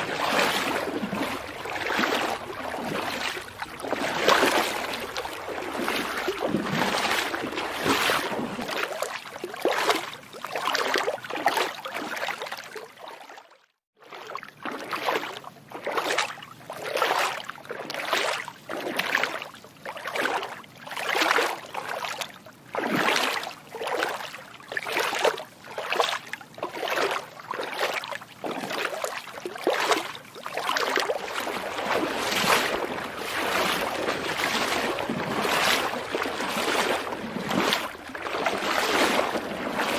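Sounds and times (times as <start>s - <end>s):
footsteps splashing through water: 0.0s - 39.9s.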